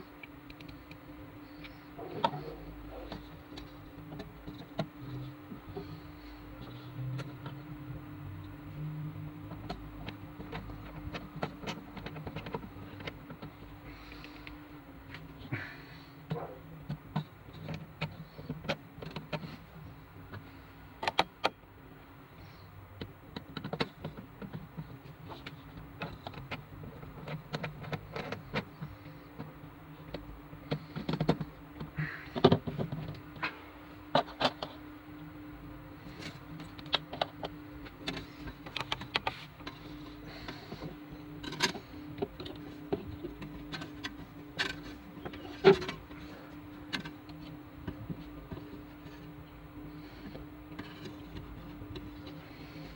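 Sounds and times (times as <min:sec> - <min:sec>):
small parts clicking and knocking: 0:00.0 - 0:07.7, 0:09.4 - 0:15.6, 0:16.2 - 0:21.6, 0:23.0 - 0:34.8, 0:36.0 - 0:52.9
steady low hum: 0:00.0 - 0:52.9.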